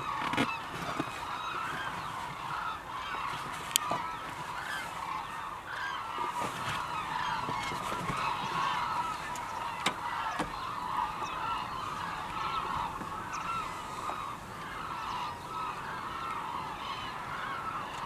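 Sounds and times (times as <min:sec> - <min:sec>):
flock of birds honking: 0:00.0 - 0:18.0.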